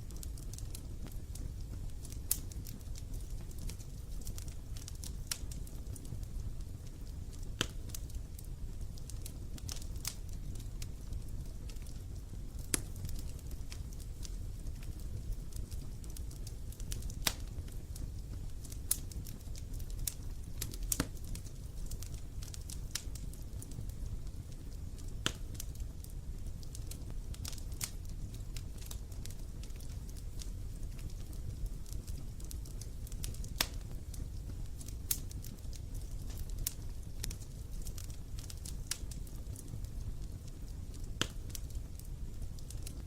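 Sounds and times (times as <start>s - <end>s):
campfire crackling: 0.0s - 43.0s
low rumble of flames: 0.0s - 43.0s.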